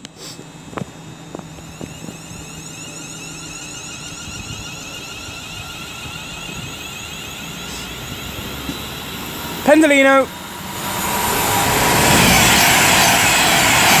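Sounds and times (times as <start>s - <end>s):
electric train whine: 0.0s - 14.0s
wheels rumbling on rail: 0.0s - 14.0s.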